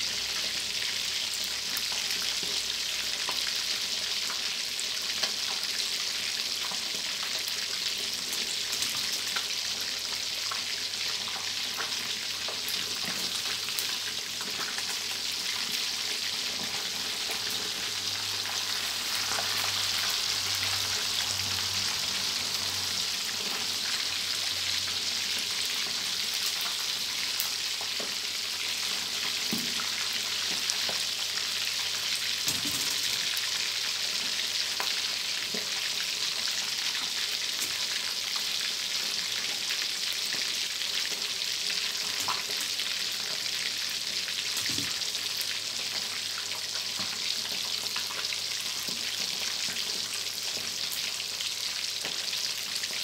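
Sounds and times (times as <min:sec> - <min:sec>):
fish deep-frying in oil: 0:00.0 - 0:53.0.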